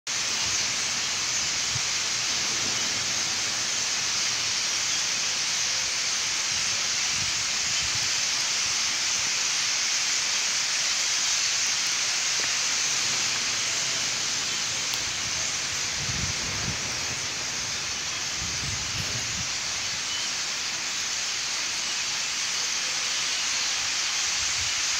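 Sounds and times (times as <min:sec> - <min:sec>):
flock of starlings chattering: 0:00.1 - 0:24.9.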